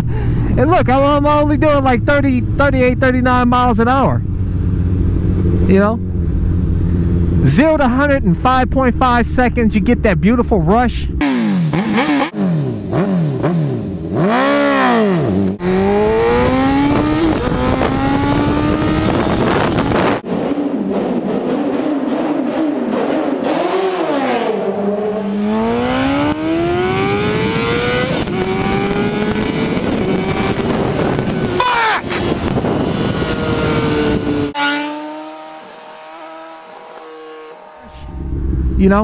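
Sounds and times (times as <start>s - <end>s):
motorcycle engine revving: 1.0s - 39.0s.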